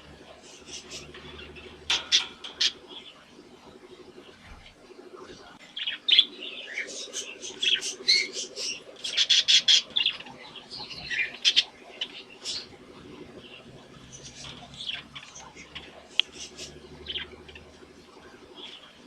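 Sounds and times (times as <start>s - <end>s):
budgerigars chirping: 0.4s - 4.6s, 5.3s - 19.0s.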